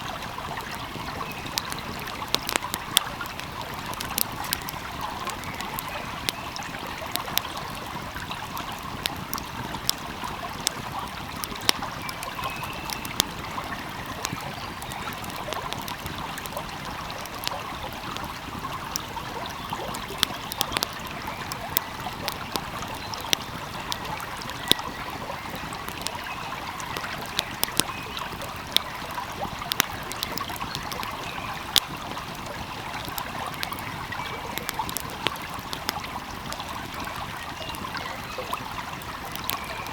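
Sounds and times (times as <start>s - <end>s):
small stream trickling: 0.0s - 39.9s
wood fire crackling: 0.0s - 39.9s.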